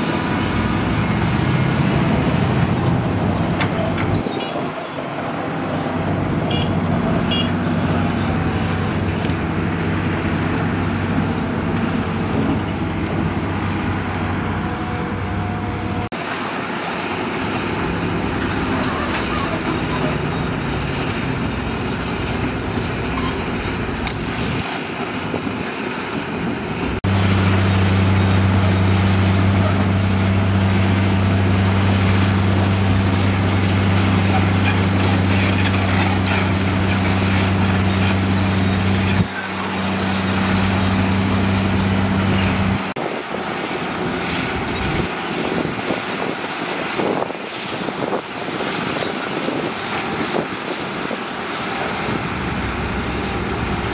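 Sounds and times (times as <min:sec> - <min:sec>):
low engine drone: 0:00.0 - 0:45.8, 0:49.5 - 0:53.9
excavator diesel engines rumbling: 0:00.0 - 0:53.9.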